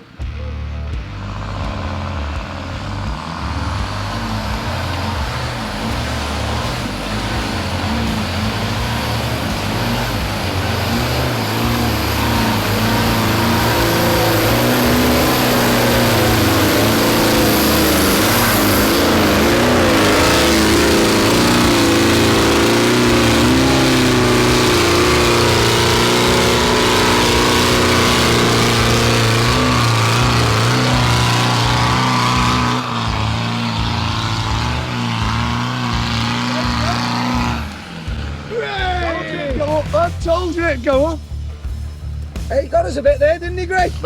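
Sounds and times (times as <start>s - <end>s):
engine revving hard: 0.0s - 42.6s.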